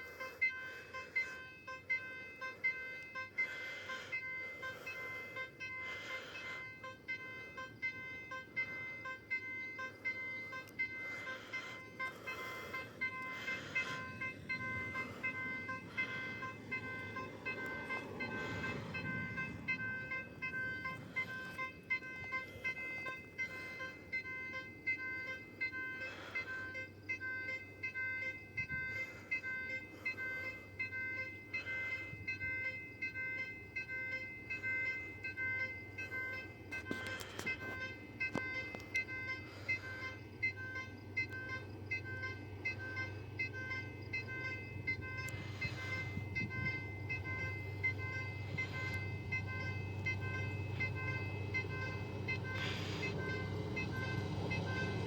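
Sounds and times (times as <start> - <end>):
electronic alarm tone pulsing: 0.0 - 55.0.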